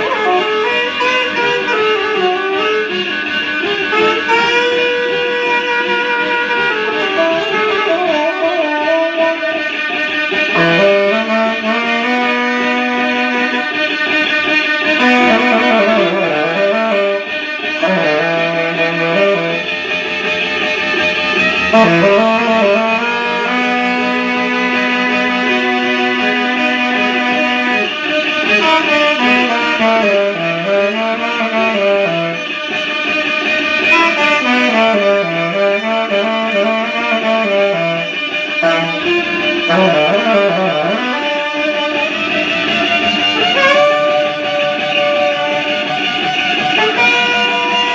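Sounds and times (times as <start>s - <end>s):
saxophone: 0.0s - 47.9s.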